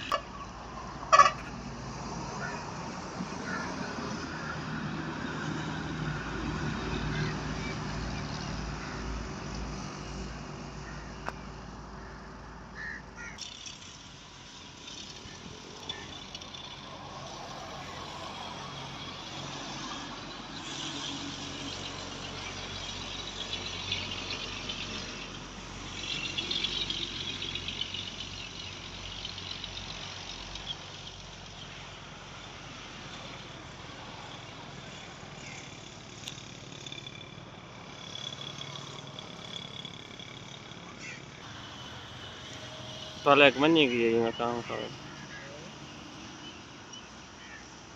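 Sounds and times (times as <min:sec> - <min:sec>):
road traffic passing: 0:00.0 - 0:47.9.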